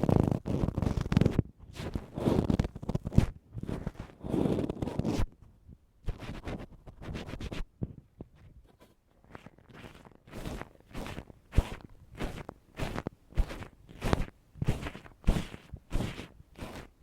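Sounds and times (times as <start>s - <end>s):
ear pick scraping microphone: 0.0s - 5.4s, 6.0s - 17.0s.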